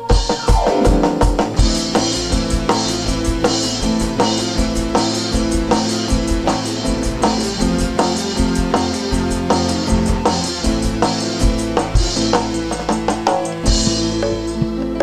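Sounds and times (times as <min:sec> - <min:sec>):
steady drum beat: 0:00.0 - 0:14.8.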